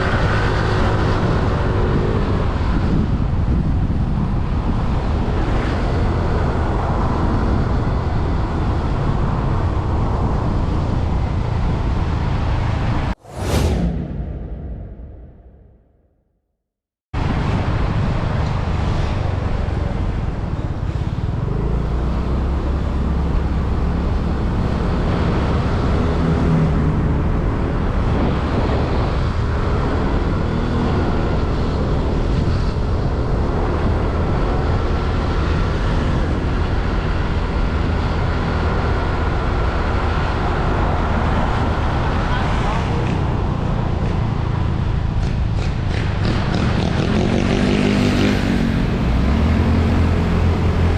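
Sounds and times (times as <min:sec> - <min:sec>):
road and wind noise: 0:00.0 - 0:16.0, 0:17.2 - 0:50.9.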